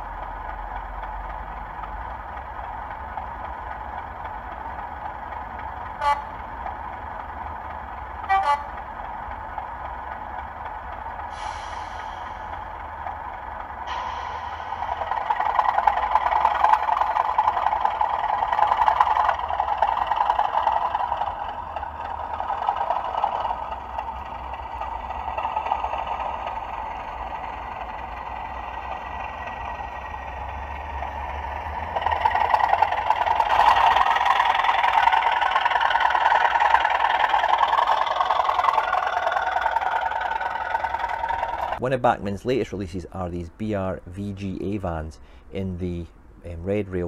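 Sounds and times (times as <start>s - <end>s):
model train running on track: 0.0s - 47.0s
recorded diesel engine sound: 0.0s - 47.0s.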